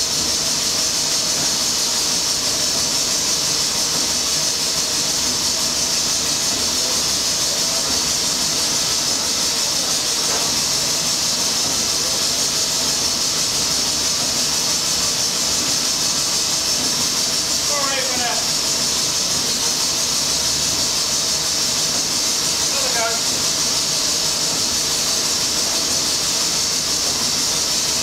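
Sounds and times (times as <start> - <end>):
high-pitched steam hiss: 0.0 - 28.0.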